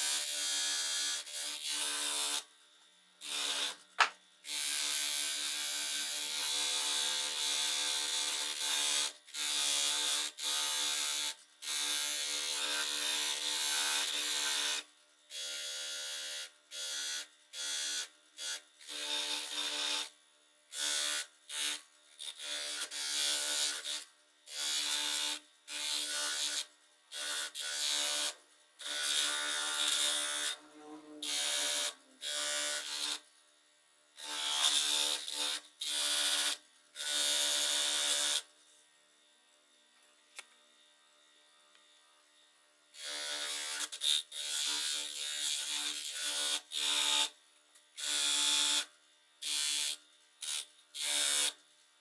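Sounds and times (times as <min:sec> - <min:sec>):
power tool motor buzzing: 0:00.0 - 0:02.5, 0:03.2 - 0:33.3, 0:34.2 - 0:38.5, 0:43.0 - 0:47.4, 0:48.0 - 0:51.6.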